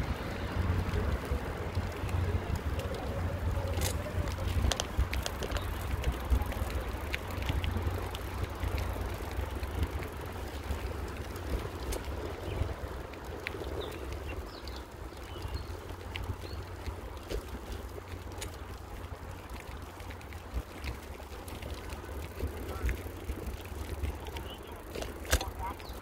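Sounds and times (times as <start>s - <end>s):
bicycle tyre noise: 0.0s - 26.0s
bike clicks and rattles: 0.0s - 26.0s
wind rumble on microphone: 0.0s - 26.0s.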